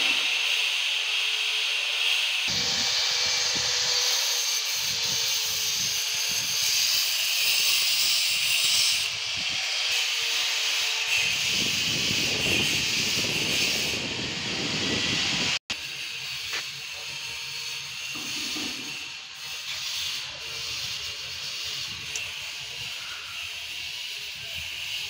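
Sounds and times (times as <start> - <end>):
angle grinder on floor: 0.0 - 25.0.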